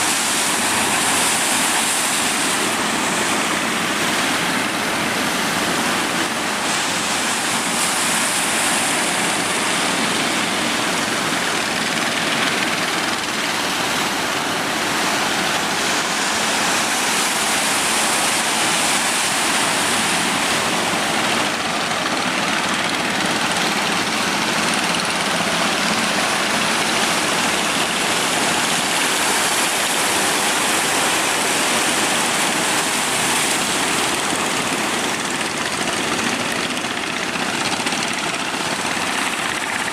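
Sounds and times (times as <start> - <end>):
heavy surf roaring: 0.0 - 39.9.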